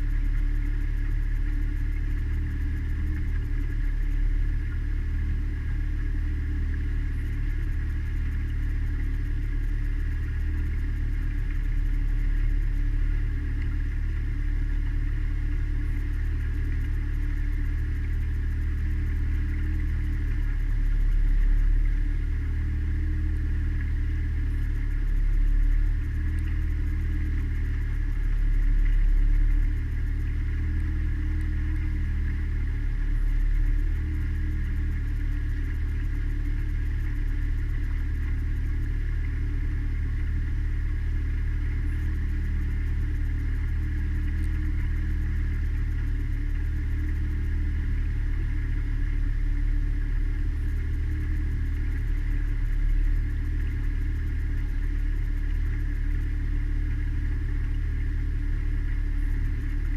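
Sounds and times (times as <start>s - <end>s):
high engine whine: 0.0s - 59.9s
outboard motor drone: 0.0s - 59.9s.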